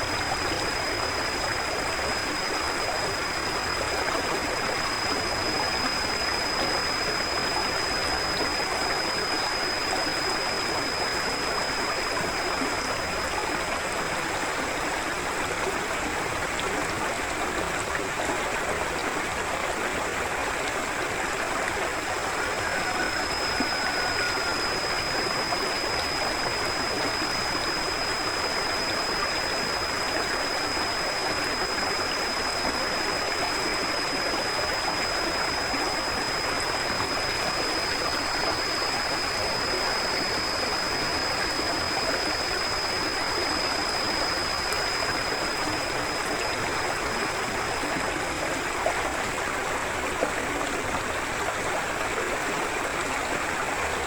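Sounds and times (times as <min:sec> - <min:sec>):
thin steady high tone: 0:00.0 - 0:19.0, 0:20.4 - 0:52.2
river flowing: 0:00.0 - 0:54.0.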